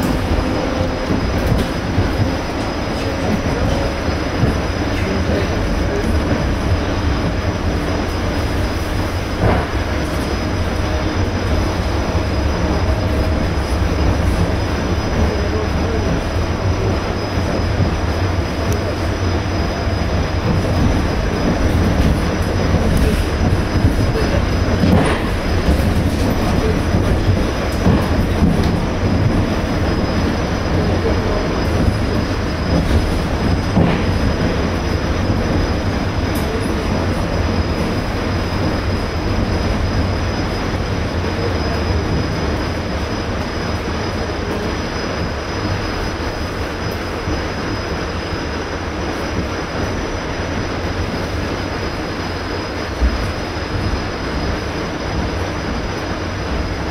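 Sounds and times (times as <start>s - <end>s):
wheels rumbling on rail: 0.0s - 56.9s.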